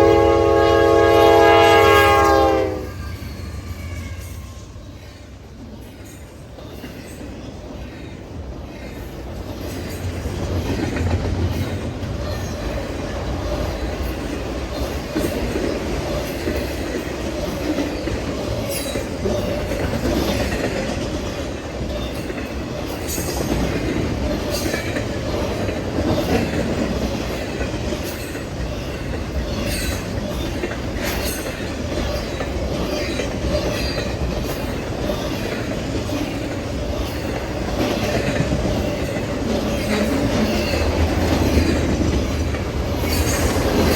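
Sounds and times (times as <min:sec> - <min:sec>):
train wheels rumbling on rails: 0:00.0 - 0:43.9
wheels clicking over rail joints: 0:03.3 - 0:43.9.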